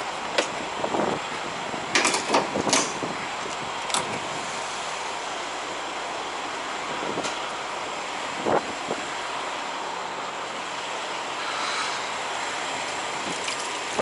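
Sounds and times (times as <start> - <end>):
truck engines idling: 0.0 - 14.0.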